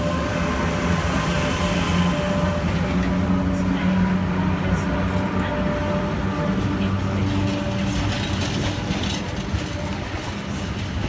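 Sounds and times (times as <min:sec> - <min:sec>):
electric locomotive humming: 0:00.0 - 0:11.0
wagons rattling over rail joints: 0:00.8 - 0:11.0.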